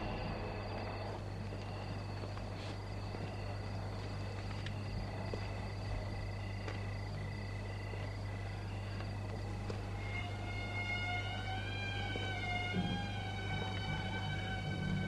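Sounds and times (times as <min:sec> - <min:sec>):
insects chirring: 0:00.0 - 0:15.0
steady low hum: 0:00.0 - 0:15.0.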